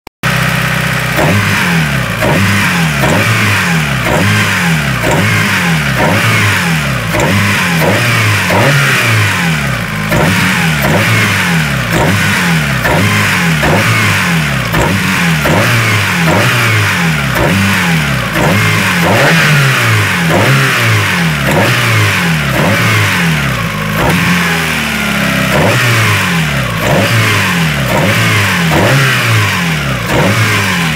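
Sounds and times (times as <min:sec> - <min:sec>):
car engine with pulsing noise: 0:00.2 - 0:30.9.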